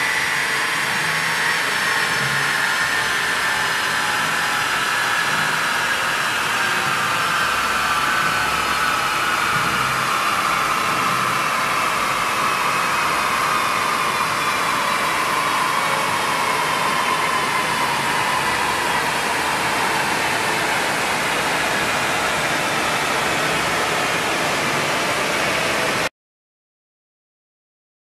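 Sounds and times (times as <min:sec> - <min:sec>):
cooling blower rushing: 0:00.0 - 0:26.1.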